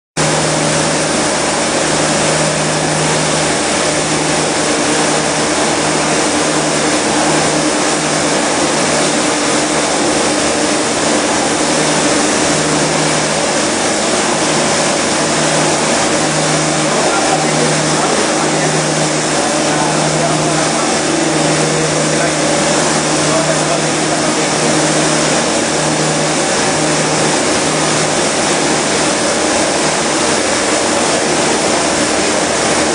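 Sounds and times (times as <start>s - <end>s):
vacuum cleaner running: 0.2s - 32.9s.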